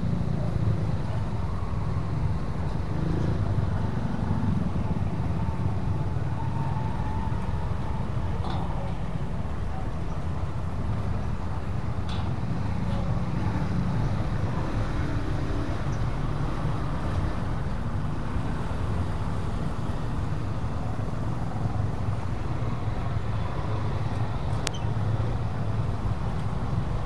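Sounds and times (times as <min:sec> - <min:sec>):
scooter and car engines rumbling: 0:00.0 - 0:27.0.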